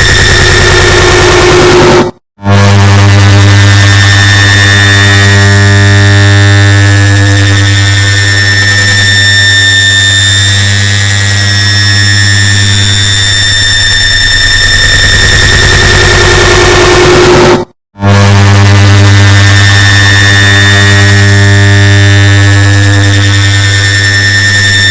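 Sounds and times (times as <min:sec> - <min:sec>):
high whining tones: 0:00.0 - 0:24.9.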